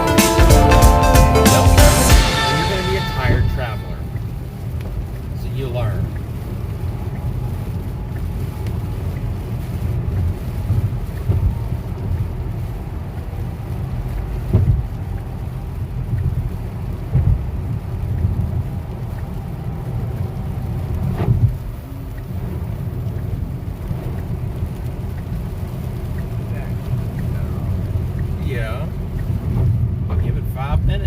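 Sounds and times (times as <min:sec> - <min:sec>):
low rumble inside a car: 0:02.6 - 0:31.0.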